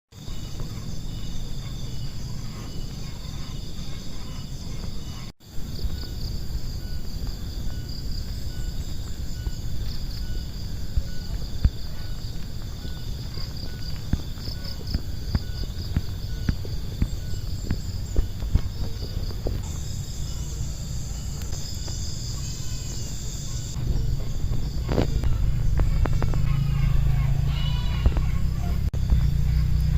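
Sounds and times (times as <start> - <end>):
insects trilling: 0.1 - 29.9
low wind rumble: 0.2 - 29.9.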